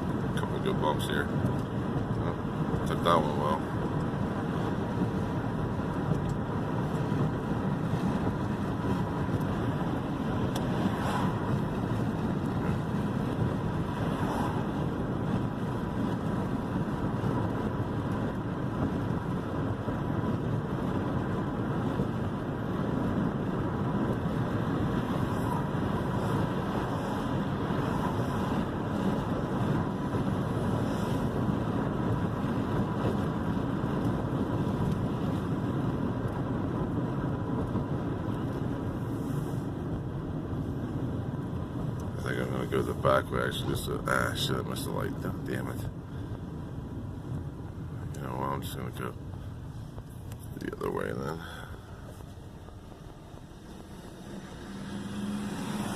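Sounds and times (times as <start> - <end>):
road and engine noise in car cabin: 0.0 - 55.9.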